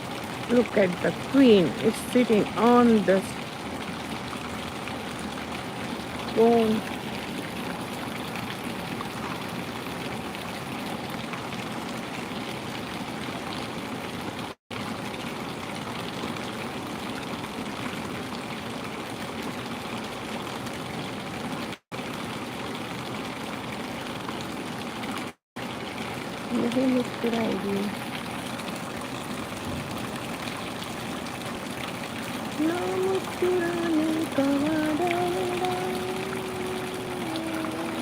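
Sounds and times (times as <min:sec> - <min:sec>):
running water rushing: 0:00.0 - 0:38.0.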